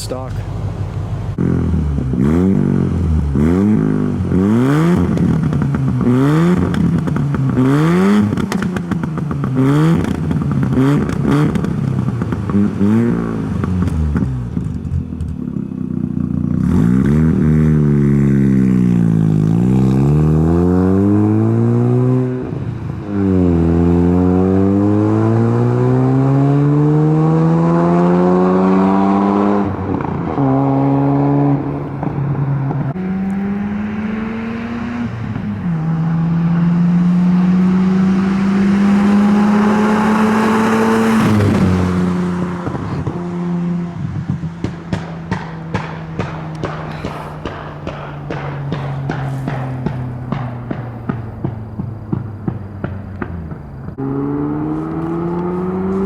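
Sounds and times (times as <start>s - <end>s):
rotary engine revving: 0.0s - 14.9s, 23.2s - 56.0s.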